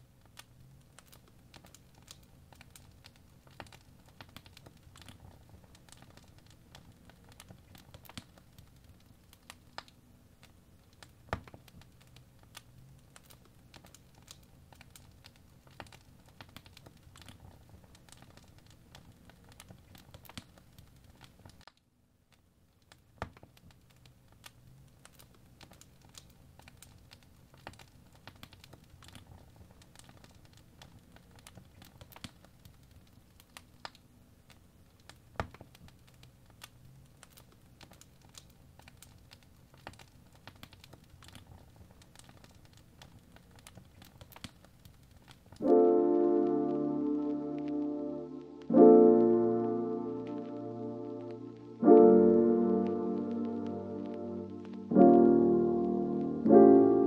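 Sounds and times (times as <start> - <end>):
burning wood crackling and popping: 0.0 - 57.0.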